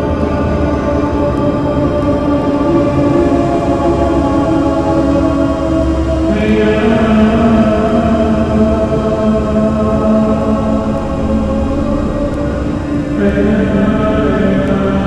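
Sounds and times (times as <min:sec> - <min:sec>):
chanted choir-like drone voices: 0:00.0 - 0:15.0
steady low rumble: 0:00.0 - 0:15.0.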